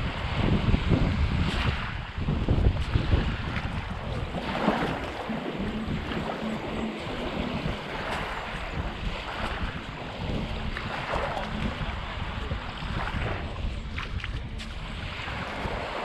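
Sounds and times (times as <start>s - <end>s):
waves washing on sandy shore: 0.0s - 16.0s
wind buffeting microphone: 0.0s - 16.0s.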